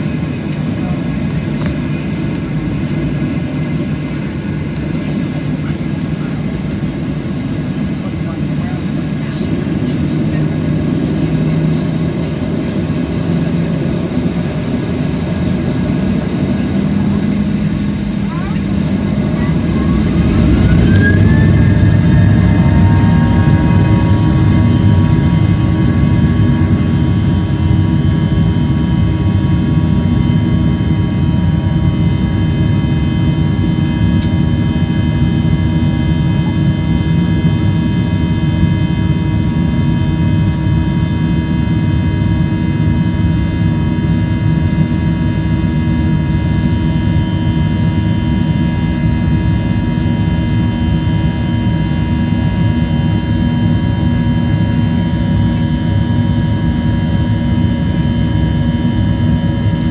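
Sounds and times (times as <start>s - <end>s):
jet engines buzzing at takeoff: 0.0s - 59.9s.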